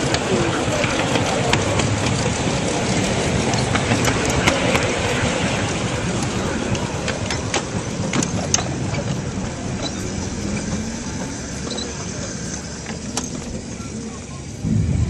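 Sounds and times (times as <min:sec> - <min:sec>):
miniature steam locomotive running: 0:00.0 - 0:14.6.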